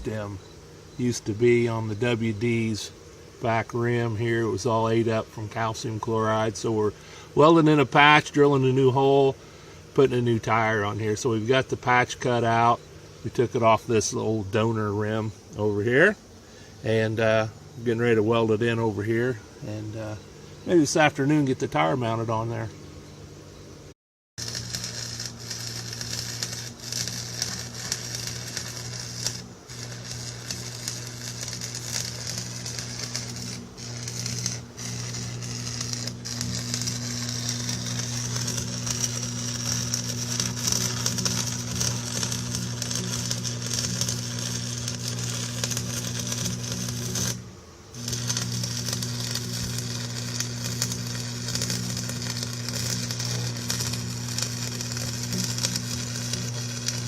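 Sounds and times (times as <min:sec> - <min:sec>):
arc welding crackling sizzle: 0:00.0 - 0:22.7, 0:24.4 - 0:57.0
electrical hum: 0:00.0 - 0:57.0.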